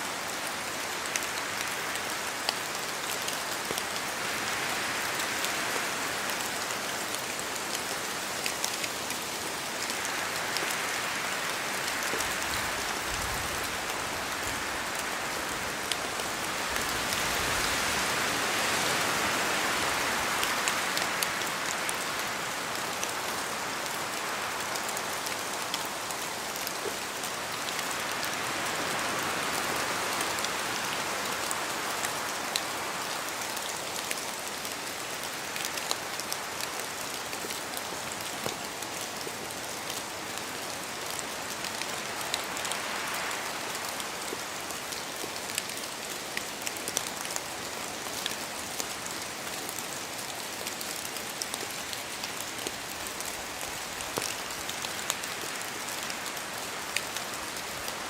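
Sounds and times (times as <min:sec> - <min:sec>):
rain falling through trees: 0:00.0 - 0:58.0
wind in foliage: 0:00.0 - 0:58.0.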